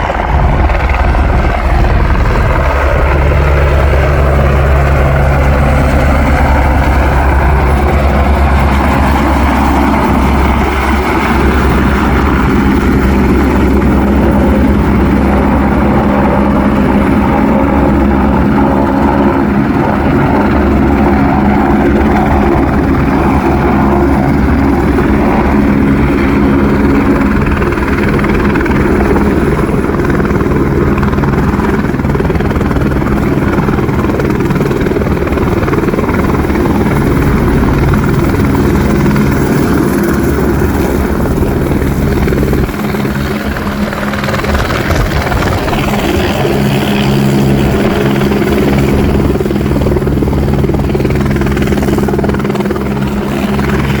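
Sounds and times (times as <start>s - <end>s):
helicopter rotor running: 0.0s - 54.0s.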